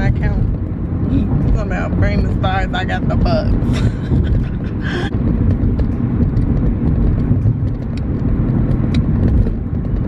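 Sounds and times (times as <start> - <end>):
car cabin road and engine rumble: 0.0 - 10.0.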